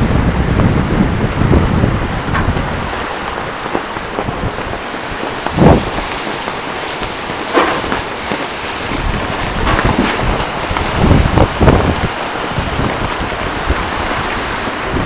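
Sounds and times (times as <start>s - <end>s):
river water rushing past hull: 0.0s - 15.0s
wind on microphone: 0.0s - 15.0s.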